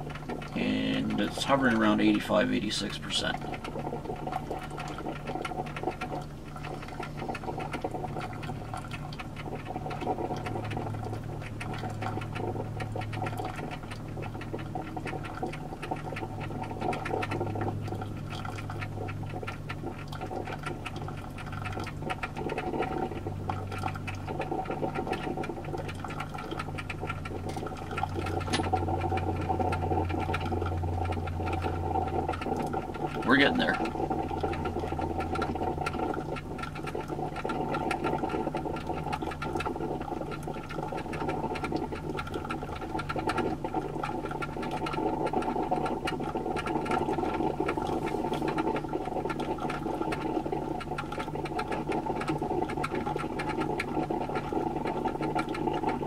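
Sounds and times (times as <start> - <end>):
coffee maker gurgling: 0.0 - 56.0.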